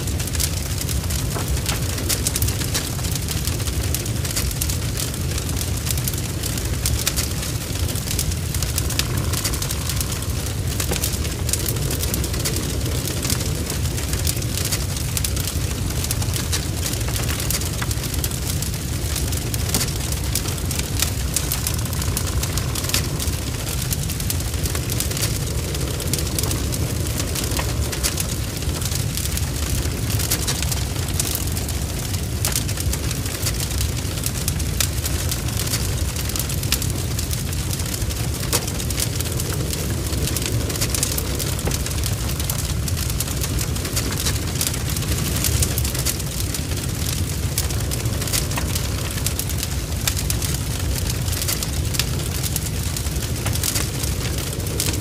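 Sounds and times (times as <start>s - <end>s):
low rumble of flames: 0.0s - 55.0s
wood crackling and popping: 0.0s - 55.0s.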